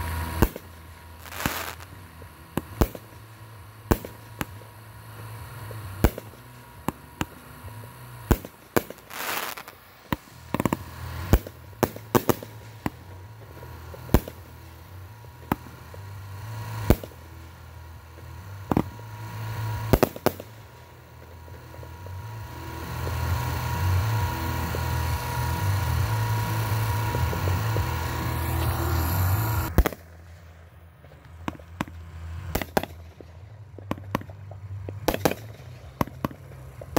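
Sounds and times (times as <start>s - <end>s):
fireworks bangs: 0.0s - 36.9s.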